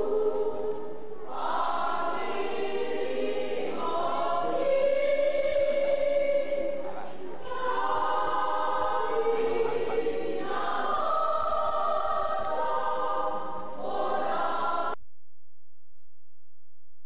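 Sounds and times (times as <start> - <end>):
group singing long held notes: 0.0 - 15.0.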